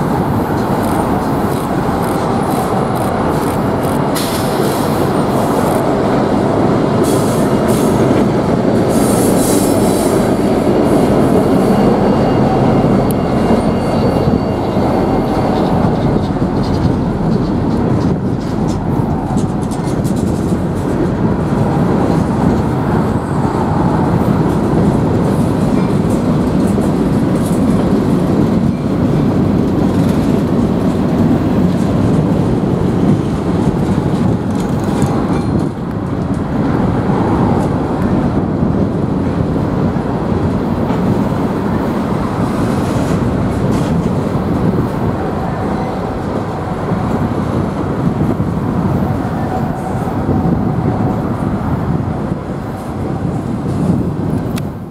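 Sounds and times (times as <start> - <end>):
freight train wheels rumbling on rail: 0.0 - 54.9.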